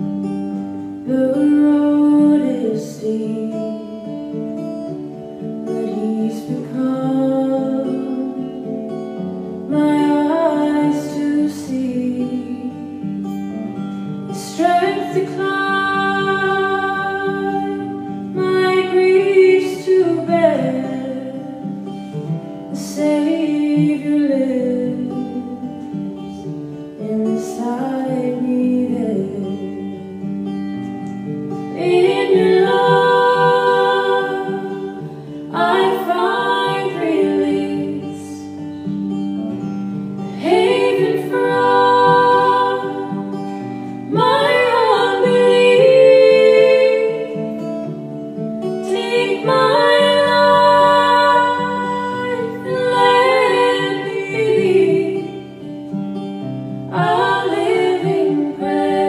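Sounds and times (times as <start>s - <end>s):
acoustic guitar: 0.0s - 59.0s
woman singing: 1.0s - 4.4s, 5.6s - 13.5s, 14.3s - 21.9s, 22.7s - 30.7s, 31.6s - 38.8s, 40.3s - 47.8s, 48.6s - 55.7s, 56.9s - 59.0s.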